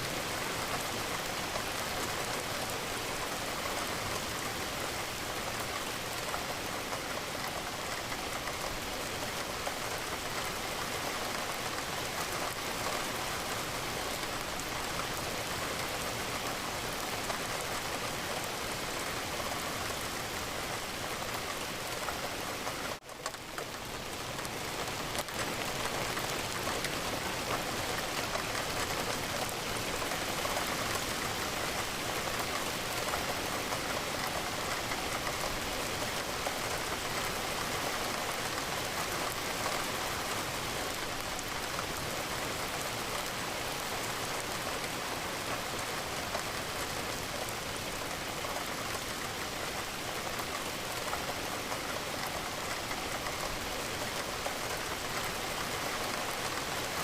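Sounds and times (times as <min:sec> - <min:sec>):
rain on a window: 0:00.0 - 0:57.0.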